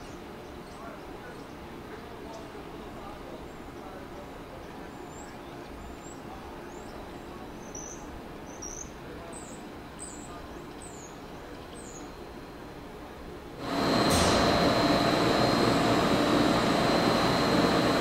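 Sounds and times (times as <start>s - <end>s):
low outdoor background hum: 0.0s - 18.0s.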